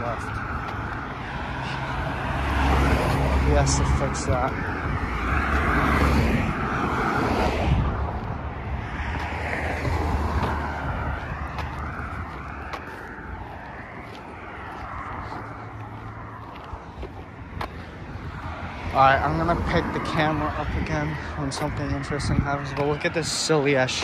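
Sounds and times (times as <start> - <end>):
motor vehicle passing: 0.0 - 24.0.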